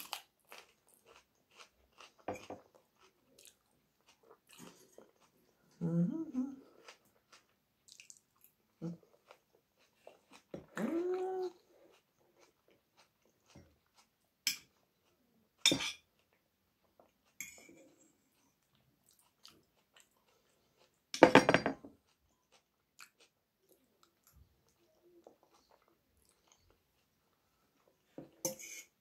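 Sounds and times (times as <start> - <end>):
chewing: 0.0 - 21.1, 22.0 - 28.5.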